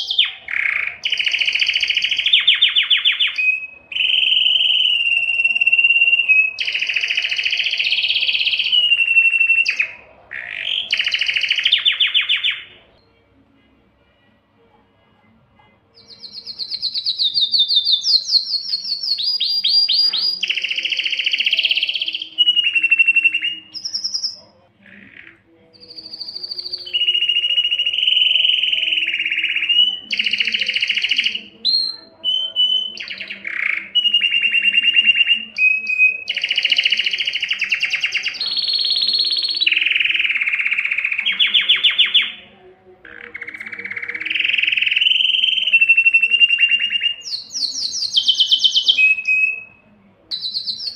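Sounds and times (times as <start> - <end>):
canary singing trills: 0.0 - 13.3, 15.6 - 50.9.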